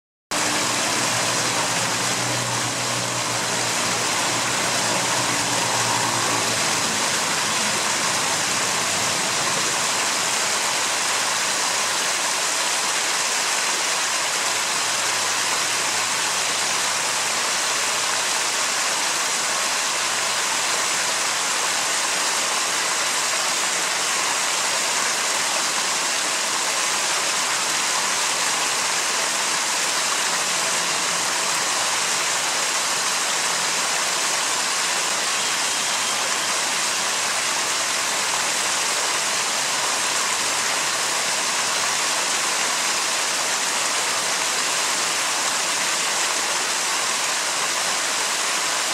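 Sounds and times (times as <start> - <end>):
stream water rushing: 0.3 - 48.9.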